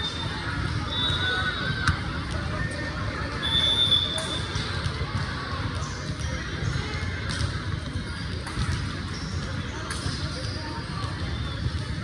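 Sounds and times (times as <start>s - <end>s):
large hall noise: 0.0s - 12.0s.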